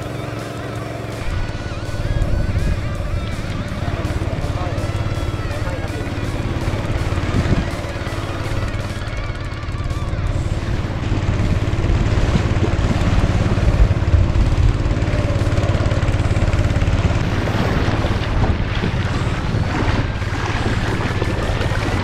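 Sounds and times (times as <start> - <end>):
boat engine running: 0.0 - 22.0
rush of wind and water: 0.0 - 22.0.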